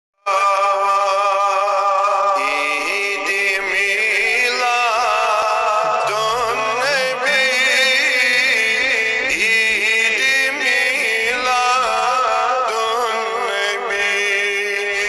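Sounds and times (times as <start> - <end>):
man chanting a devotional song: 0.2 - 15.0.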